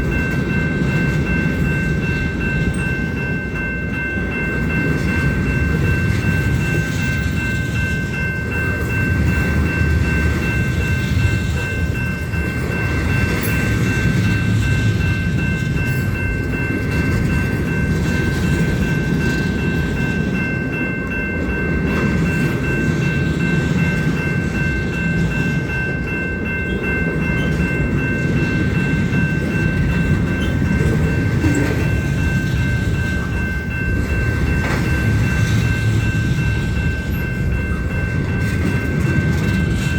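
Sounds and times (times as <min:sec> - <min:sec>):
train wheels rumbling on rail: 0:00.0 - 0:39.9
wheels clicking over rail joints: 0:00.0 - 0:39.9.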